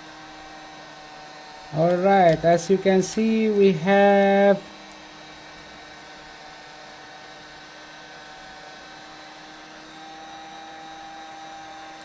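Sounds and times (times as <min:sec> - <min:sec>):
electrical hum with tones: 0:00.0 - 0:12.0.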